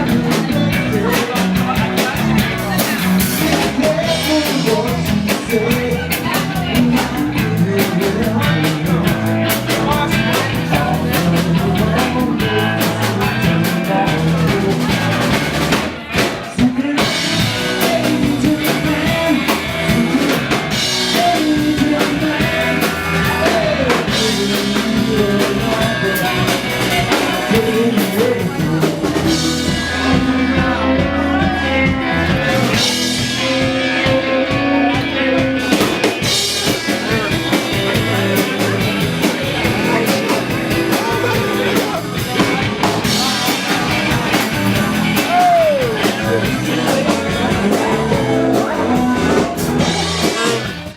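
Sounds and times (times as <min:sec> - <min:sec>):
bass guitar: 0:00.0 - 0:50.9
drum kit: 0:00.0 - 0:50.9
electric guitar: 0:00.0 - 0:50.9
person singing: 0:00.0 - 0:50.9.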